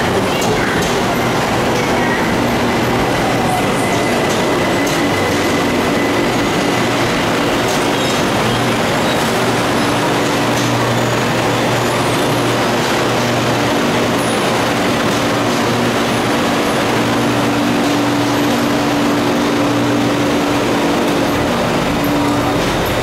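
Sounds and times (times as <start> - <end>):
constant noise: 0.0 - 23.0
train humming at platform: 0.0 - 23.0.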